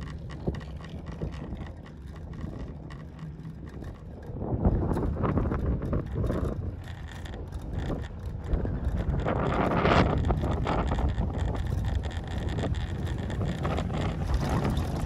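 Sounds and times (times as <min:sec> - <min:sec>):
steady low rumble: 0:00.0 - 0:15.0
wind buffeting microphone: 0:00.0 - 0:15.0.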